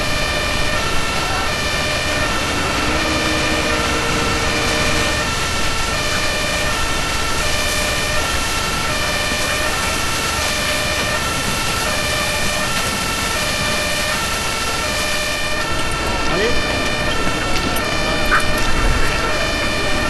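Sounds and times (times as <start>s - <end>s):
steady background noise: 0.0s - 20.0s
two-tone emergency siren: 0.0s - 20.0s.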